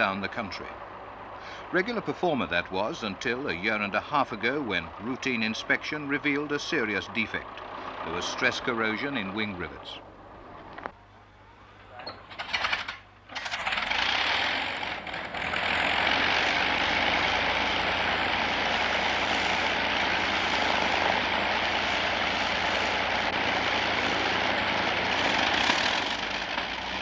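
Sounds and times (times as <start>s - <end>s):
aircraft piston engines running: 0.0s - 11.0s, 11.8s - 27.0s.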